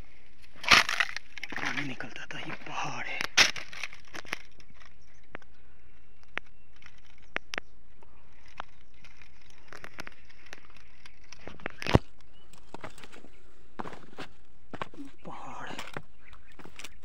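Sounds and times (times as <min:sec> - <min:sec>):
footsteps on loose rocks: 0:00.0 - 0:05.6, 0:06.2 - 0:17.0.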